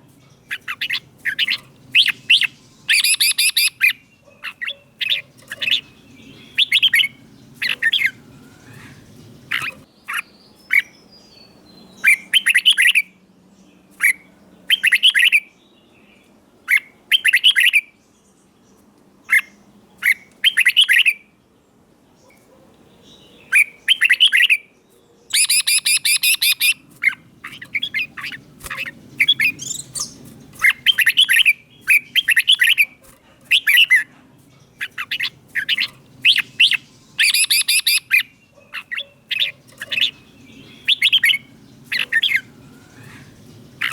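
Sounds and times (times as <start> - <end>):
bulbul singing: 0.0 - 18.1, 22.3 - 24.7, 25.3 - 43.9.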